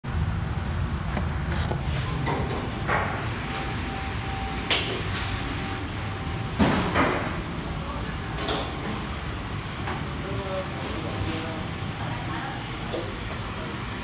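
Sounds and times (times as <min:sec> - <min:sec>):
low kitchen hum: 0:00.1 - 0:14.0.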